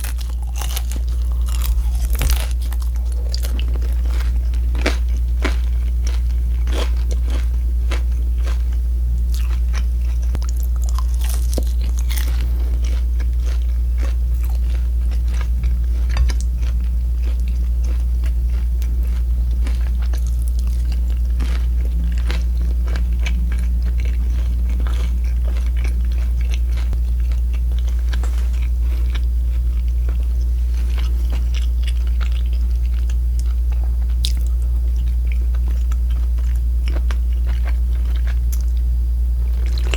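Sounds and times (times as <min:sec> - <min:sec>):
crunching and chewing crispy food: 0:00.0 - 0:39.9
steady low hum: 0:00.0 - 0:39.9.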